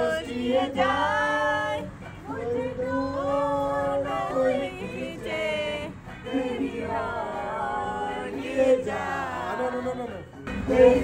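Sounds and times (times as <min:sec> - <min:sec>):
people singing together: 0:00.0 - 0:11.0.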